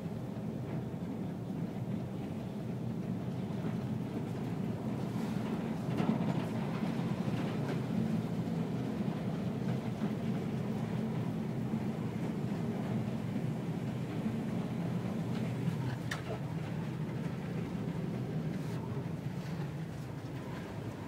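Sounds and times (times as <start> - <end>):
ship engine and hull rumble: 0.0 - 21.0
wind: 0.0 - 21.0.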